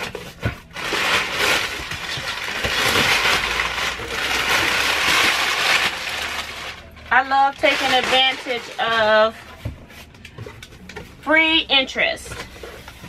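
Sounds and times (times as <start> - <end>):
packaging rustling and scraping: 0.0 - 11.2, 12.0 - 13.0.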